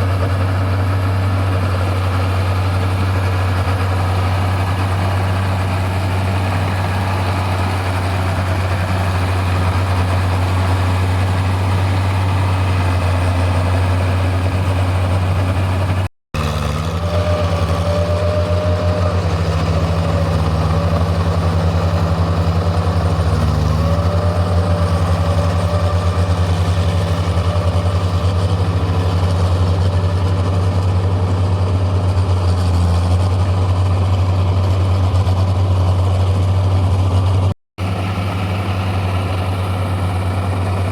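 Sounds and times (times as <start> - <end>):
tractor engine humming: 0.0 - 40.9.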